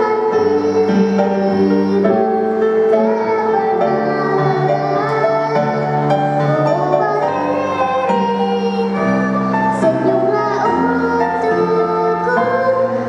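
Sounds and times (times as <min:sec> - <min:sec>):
girl singing: 0:00.0 - 0:13.0
instrumental chords: 0:00.0 - 0:13.0.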